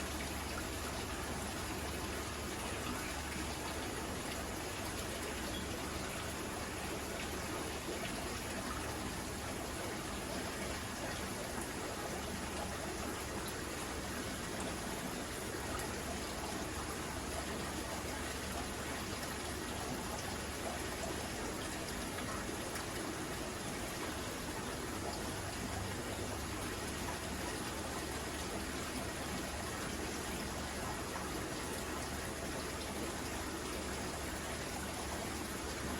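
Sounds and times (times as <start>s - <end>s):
aquarium water trickling: 0.0s - 35.9s.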